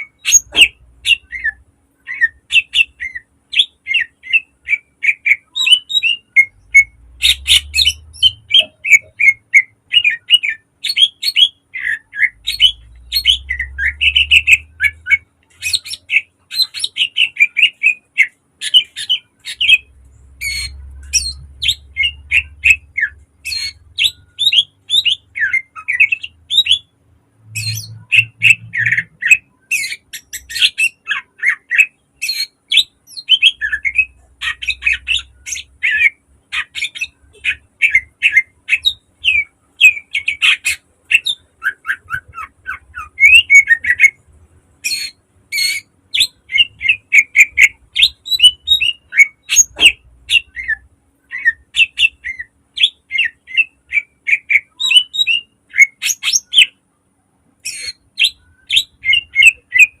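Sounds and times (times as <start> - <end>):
bird singing sharp chirps and whistles: 0.0 - 44.2, 44.8 - 56.7, 57.6 - 60.0.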